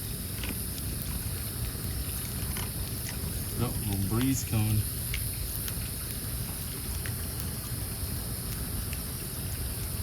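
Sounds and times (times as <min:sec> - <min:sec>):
campfire crackling: 0:00.0 - 0:10.0
campfire popping: 0:00.0 - 0:10.0
steady high hiss: 0:00.0 - 0:10.0.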